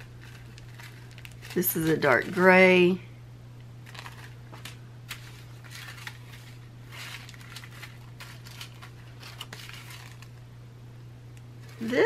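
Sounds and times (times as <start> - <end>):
plastic bags crinkling: 0.0 - 3.0, 3.8 - 10.4, 11.6 - 12.0
steady low hum: 0.0 - 12.0.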